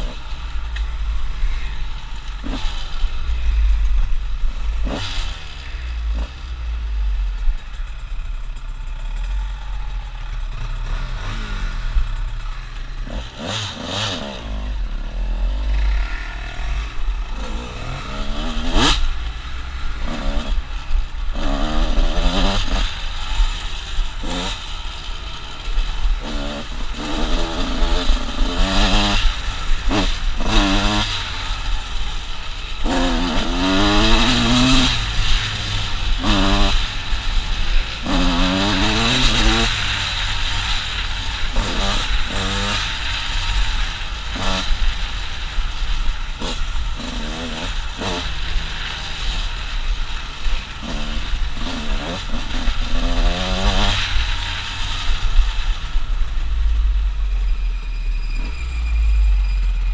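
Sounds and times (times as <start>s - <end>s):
off-road vehicle engine revving: 0.0s - 7.3s, 8.9s - 57.4s.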